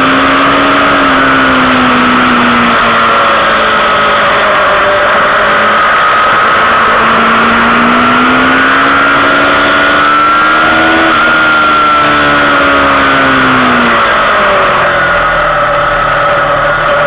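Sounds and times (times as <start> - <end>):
motorcycle engine at speed: 0.0 - 17.0.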